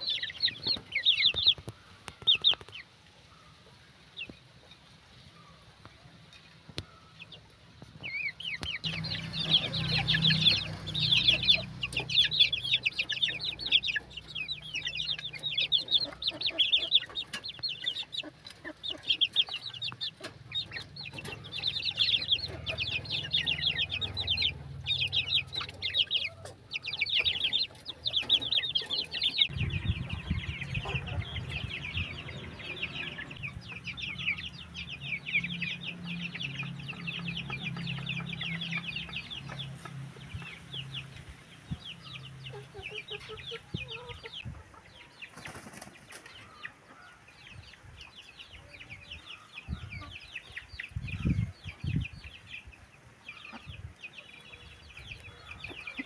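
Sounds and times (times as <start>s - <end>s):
young chickens cheeping: 0.0s - 56.0s.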